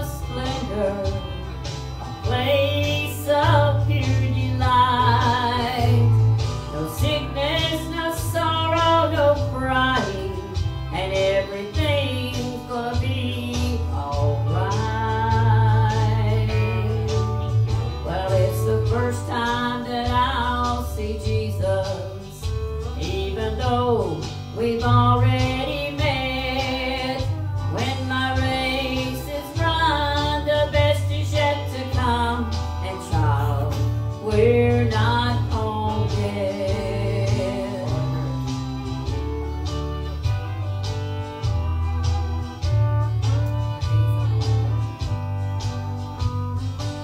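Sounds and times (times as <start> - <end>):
woman singing into microphone: 0.0 - 40.5
guitar accompaniment: 0.0 - 47.0.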